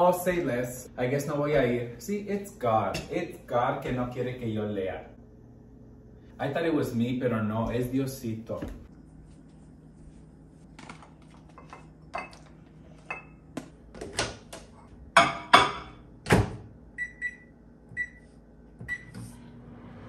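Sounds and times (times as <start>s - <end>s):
microwave running hum: 0.0s - 20.0s.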